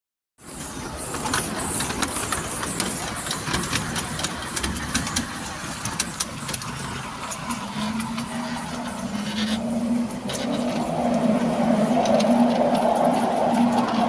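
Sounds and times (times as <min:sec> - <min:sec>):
miniature steam locomotive rumble: 0:00.4 - 0:14.0
steam hiss: 0:00.4 - 0:14.0
wheels clicking on track: 0:00.4 - 0:14.0.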